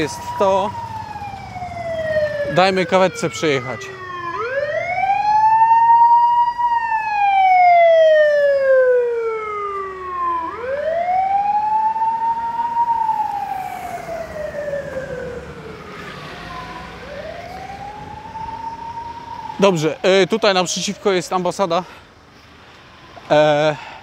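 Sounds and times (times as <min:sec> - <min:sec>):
ambulance siren wailing: 0:00.0 - 0:22.0, 0:22.9 - 0:24.0.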